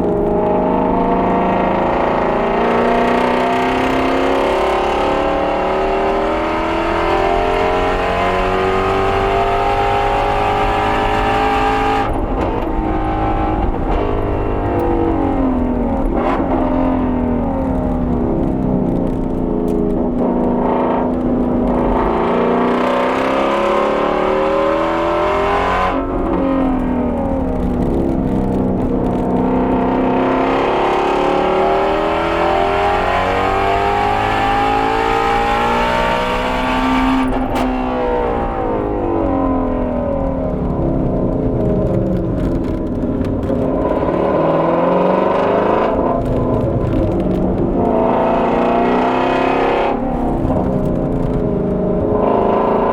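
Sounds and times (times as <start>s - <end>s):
car engine at full throttle: 0.0s - 52.9s.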